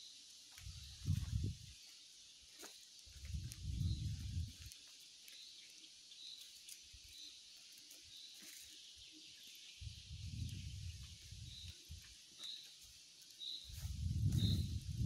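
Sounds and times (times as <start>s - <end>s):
high insect hiss: 0.0s - 15.0s.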